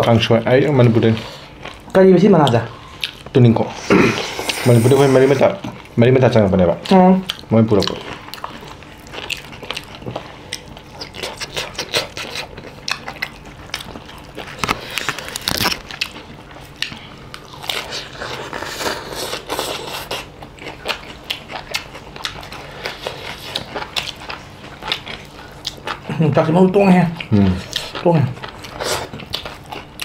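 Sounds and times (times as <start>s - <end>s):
chewing and crunching food: 0.0s - 3.7s, 5.4s - 30.0s.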